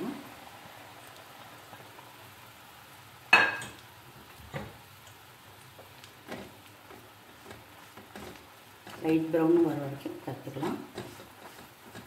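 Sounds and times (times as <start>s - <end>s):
bread cubes frying: 0.0s - 12.0s.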